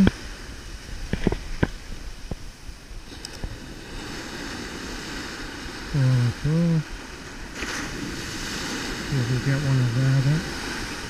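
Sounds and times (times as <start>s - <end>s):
surf washing up beach: 0.0s - 11.0s
wind on microphone: 0.0s - 11.0s.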